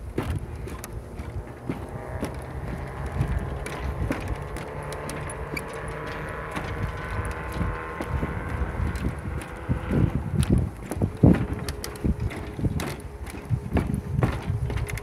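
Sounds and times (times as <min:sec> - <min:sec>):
footsteps on wooden planks: 0:00.0 - 0:15.0
wind noise on microphone: 0:00.0 - 0:15.0.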